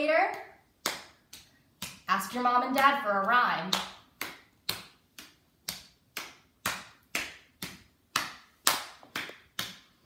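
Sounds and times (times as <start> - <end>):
hand slapping thigh: 0.3 - 2.1, 3.6 - 10.0.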